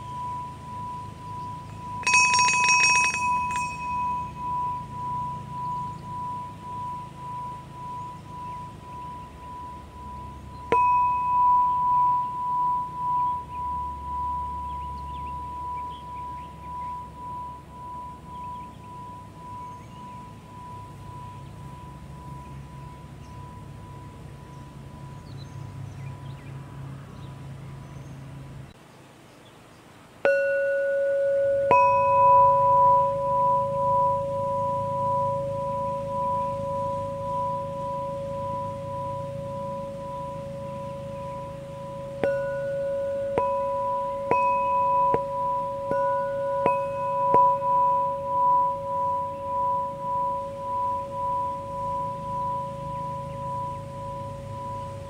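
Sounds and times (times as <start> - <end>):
high wavering chime tube tone: 0.0 - 27.3, 30.2 - 55.0
low metal chime tube ringing: 0.0 - 27.6, 30.2 - 55.0.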